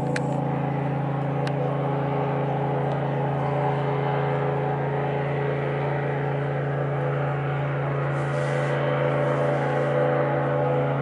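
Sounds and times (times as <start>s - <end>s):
airboat engine droning: 0.0s - 11.0s.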